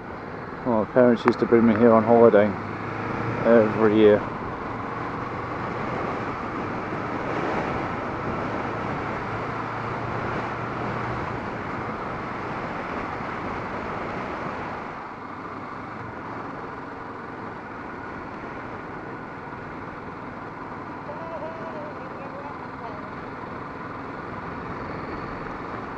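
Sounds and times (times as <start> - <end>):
wind and road noise: 0.0 - 25.9.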